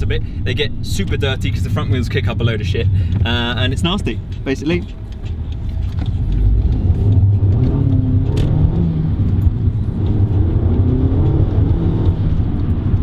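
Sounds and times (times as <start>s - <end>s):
road noise rumble: 0.0s - 13.0s
car engine accelerating: 0.7s - 13.0s.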